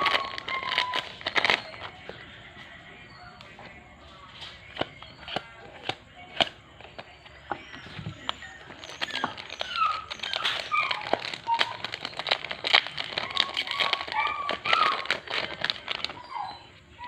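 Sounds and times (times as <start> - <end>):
animal whining: 0.0 - 2.1, 4.7 - 17.0
foil packs crinkling: 0.0 - 2.2, 4.6 - 16.6
trading cards being handled: 0.0 - 2.8, 3.4 - 16.3.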